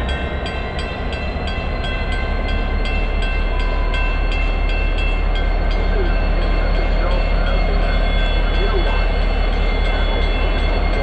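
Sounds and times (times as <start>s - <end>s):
crossing bell ringing: 0.0s - 11.0s
freight train rumbling: 0.0s - 11.0s.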